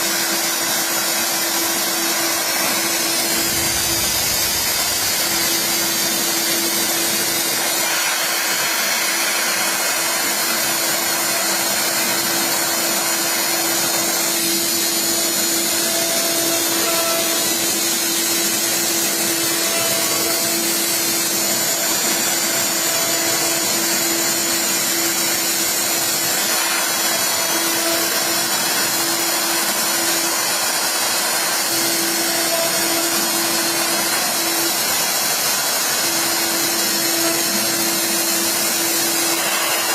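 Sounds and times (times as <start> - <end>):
router spindle whine: 0.0 - 39.9
steady machine hum: 0.0 - 39.9.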